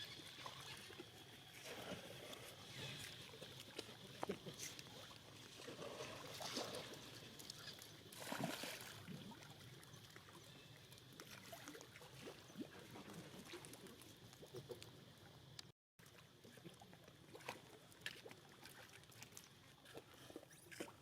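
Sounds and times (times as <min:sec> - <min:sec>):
water trickling and sloshing: 0:00.0 - 0:21.0.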